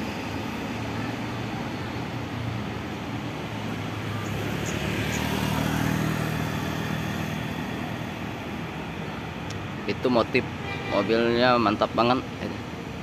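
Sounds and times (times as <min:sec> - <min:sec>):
bus diesel engine passing: 0:00.0 - 0:10.8
traffic noise: 0:00.0 - 0:13.0.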